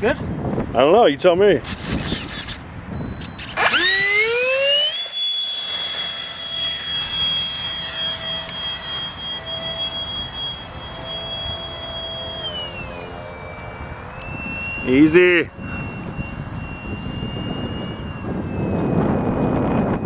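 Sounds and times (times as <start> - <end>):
electric ducted fan whine: 0.0 - 20.0.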